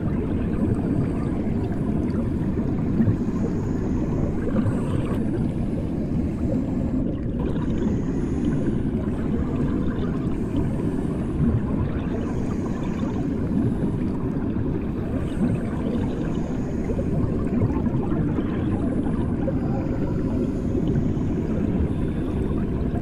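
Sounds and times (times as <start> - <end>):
underwater rumble and gurgle: 0.0 - 23.0.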